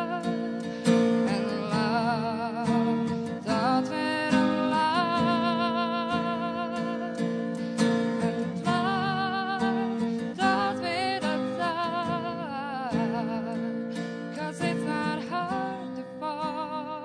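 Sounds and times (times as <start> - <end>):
strummed acoustic guitar: 0.0 - 17.0
woman singing a slow ballad: 0.0 - 17.0.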